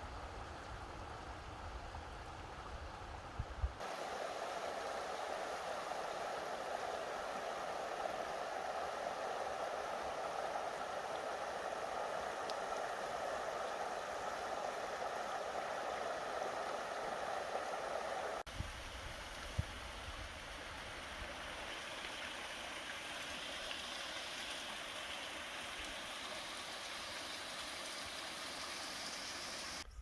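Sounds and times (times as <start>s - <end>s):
rushing water: 0.0s - 29.8s.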